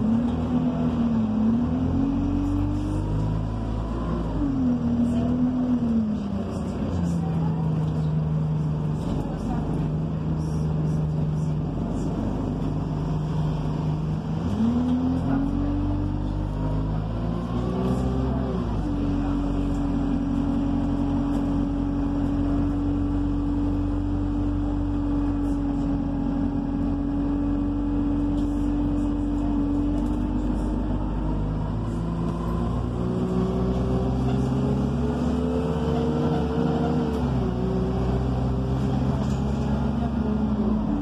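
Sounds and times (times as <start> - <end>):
bus engine whine and rumble: 0.0 - 41.0.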